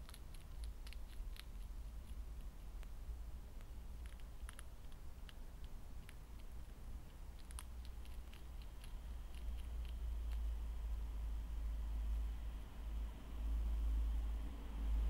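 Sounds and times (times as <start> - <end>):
hedgehog chewing and crunching: 0.0 - 14.3
low hum: 0.0 - 15.0.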